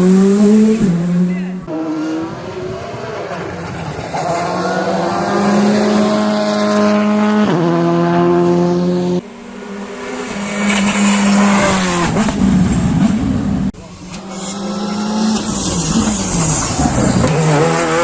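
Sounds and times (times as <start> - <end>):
car approaching: 0.0 - 18.0
rally car engine revving: 0.0 - 18.0.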